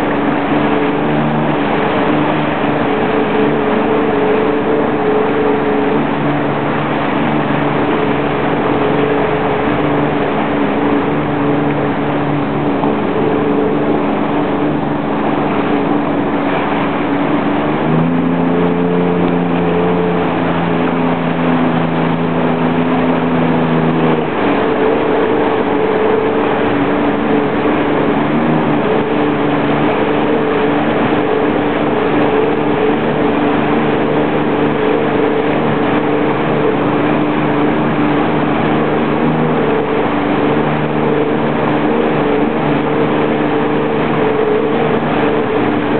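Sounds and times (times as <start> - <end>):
jet ski engine running: 0.0 - 45.9
rushing water noise: 0.0 - 45.9.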